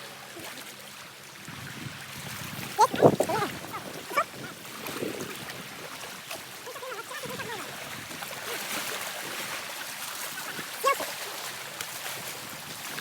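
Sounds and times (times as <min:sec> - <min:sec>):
sea water washing on shore: 0:00.0 - 0:13.0.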